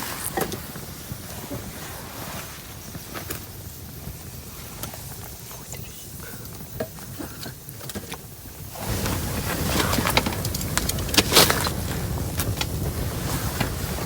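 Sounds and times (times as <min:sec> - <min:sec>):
campfire crackling: 0:00.0 - 0:14.0
rushing noise with clicks: 0:00.0 - 0:14.0.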